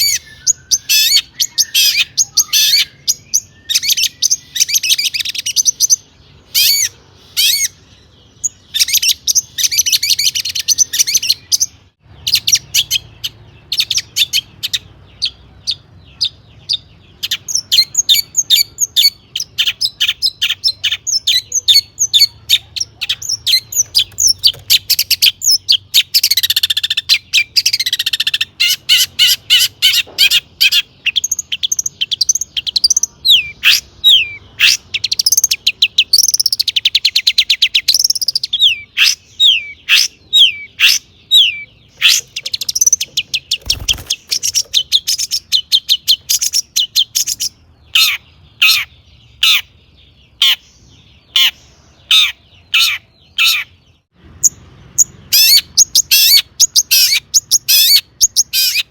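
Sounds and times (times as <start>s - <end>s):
bird singing chirps and whistles: 0.0s - 58.9s.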